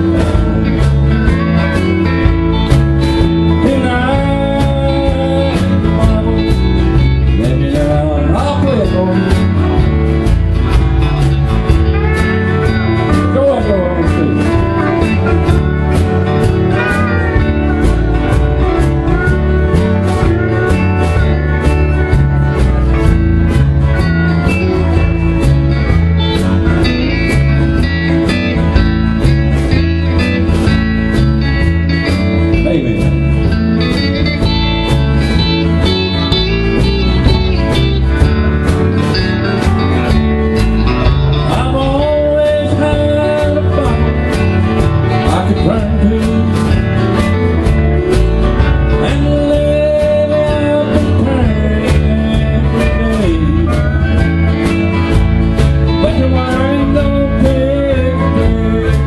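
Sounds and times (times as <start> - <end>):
live country band playing: 0.0 - 59.0.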